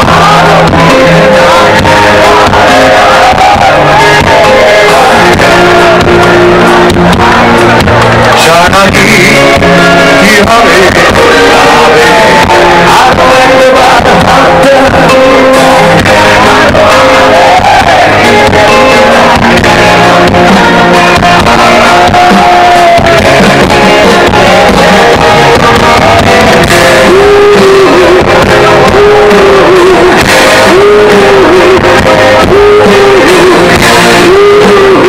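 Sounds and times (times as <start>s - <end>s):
live rock band: 0.0s - 35.0s
man singing: 0.0s - 35.0s.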